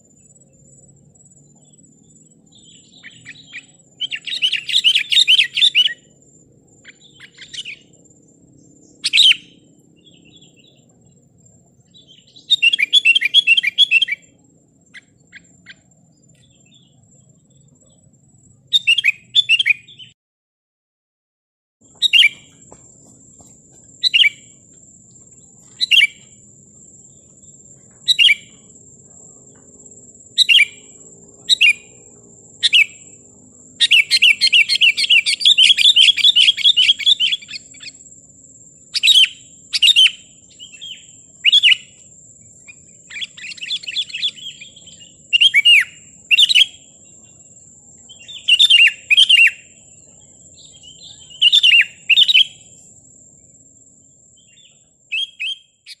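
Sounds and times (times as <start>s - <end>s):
bird calls and chattering: 1.2s - 20.1s, 21.9s - 33.1s, 33.8s - 38.2s, 38.8s - 52.8s, 54.4s - 56.0s.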